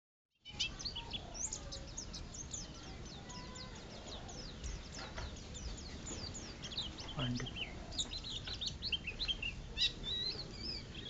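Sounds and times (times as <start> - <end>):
bird chirping rapidly: 0.4 - 11.0.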